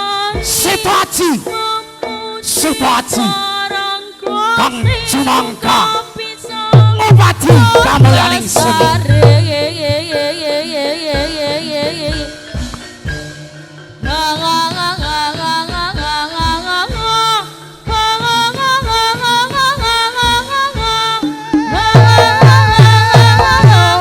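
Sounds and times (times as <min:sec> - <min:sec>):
drum strokes: 0:00.4 - 0:24.0.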